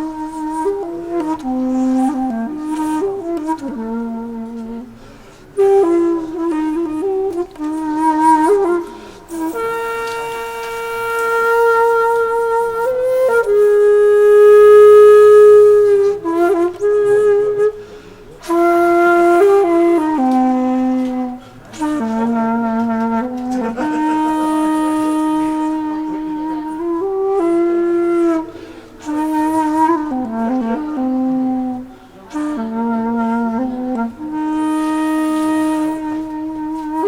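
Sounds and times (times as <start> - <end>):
solo wind instrument melody: 0.0 - 37.0.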